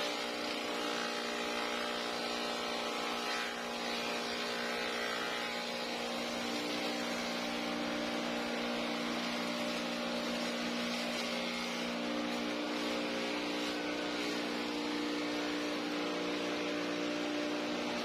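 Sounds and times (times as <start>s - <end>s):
grass chopper motor running: 0.0s - 18.0s.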